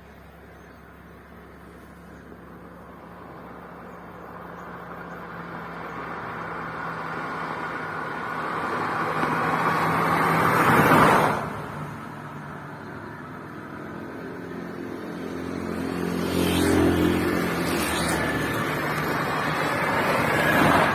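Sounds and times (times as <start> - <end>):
car passing by: 1.6 - 20.9.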